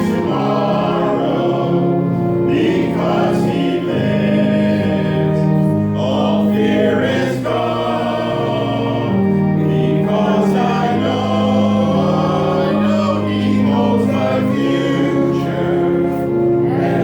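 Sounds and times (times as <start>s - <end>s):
group singing a slow hymn: 0.0s - 17.0s.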